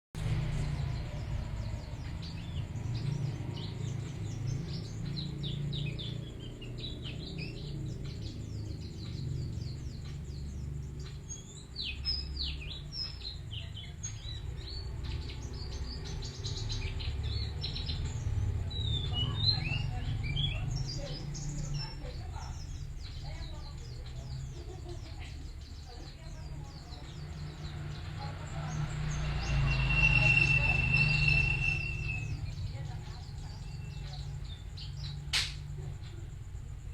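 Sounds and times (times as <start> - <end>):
steady low rumble: 0.2 - 36.9
bird chirping and trilling: 0.6 - 35.6.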